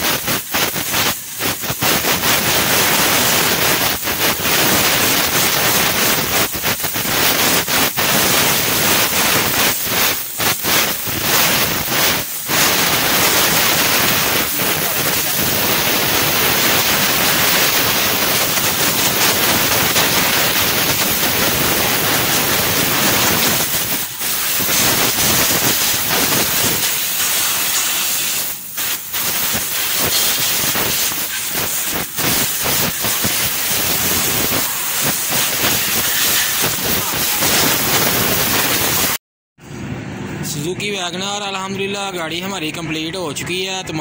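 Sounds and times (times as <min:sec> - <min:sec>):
compressed air blow gun hissing: 0:00.0 - 0:39.2.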